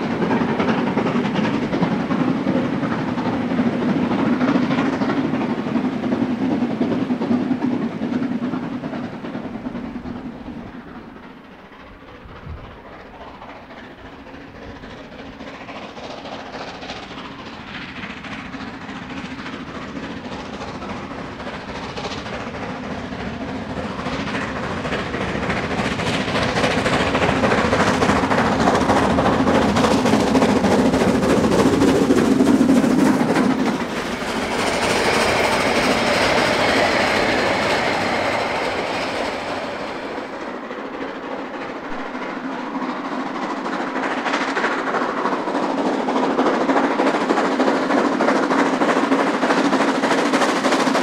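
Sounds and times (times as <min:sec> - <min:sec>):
steam locomotive exhaust beats: 0:00.0 - 0:51.0
train rolling and ringing: 0:00.0 - 0:51.0.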